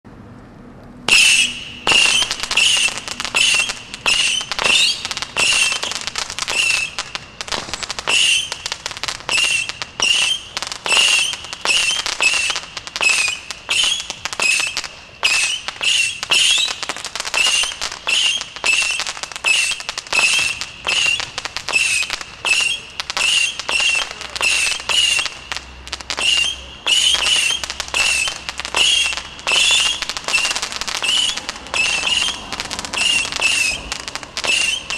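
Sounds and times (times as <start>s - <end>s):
whistling firework missiles: 1.1s - 34.9s.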